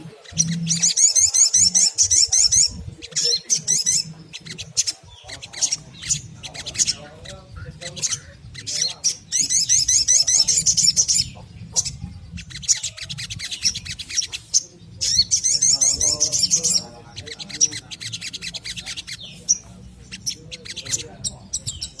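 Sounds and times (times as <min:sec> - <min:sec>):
bird twittering trills: 0:00.0 - 0:22.0.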